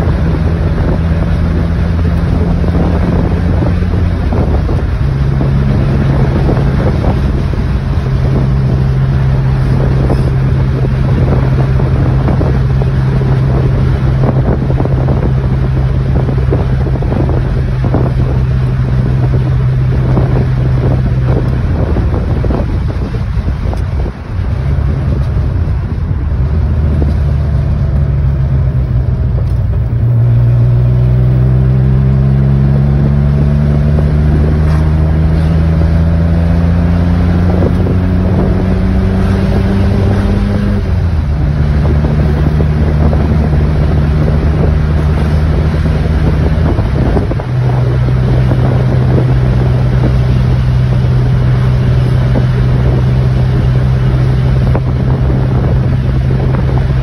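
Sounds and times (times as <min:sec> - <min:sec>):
car engine accelerating: 0:00.0 - 0:57.0
wind rushing: 0:00.0 - 0:57.0.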